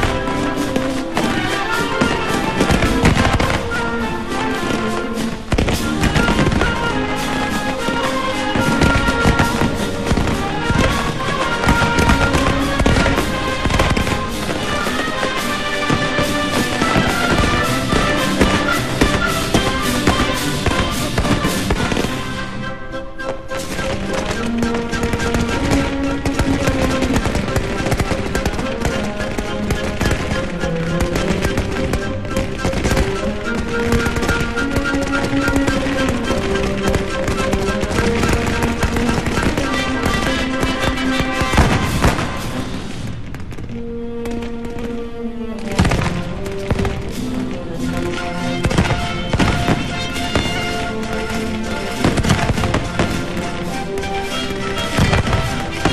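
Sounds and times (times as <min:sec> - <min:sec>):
band music: 0:00.0 - 0:55.9
fireworks crackling and banging: 0:00.0 - 0:55.9.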